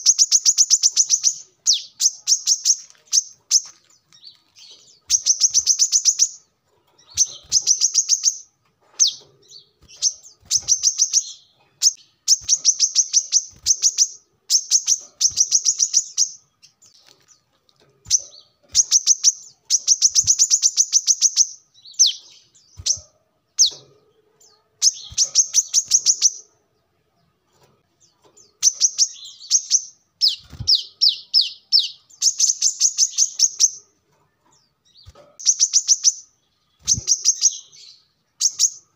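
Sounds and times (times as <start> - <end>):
sunbird singing fast chattering: 0.0 - 17.0, 18.1 - 23.9, 24.8 - 26.5, 28.4 - 33.9, 34.8 - 38.9.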